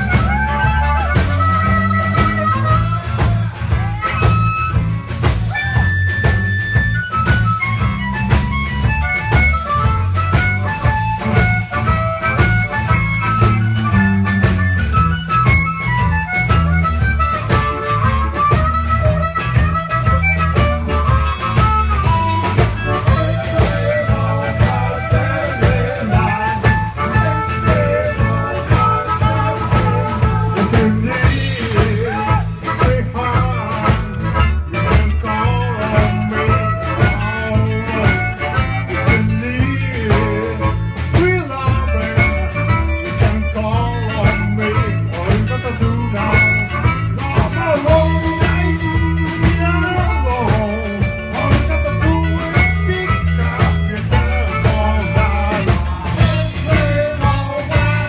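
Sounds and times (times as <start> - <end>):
amplified harmonica: 0.0 - 58.0
electric bass: 0.0 - 58.0
electric guitar: 0.0 - 58.0
steady drum beat: 0.0 - 58.0.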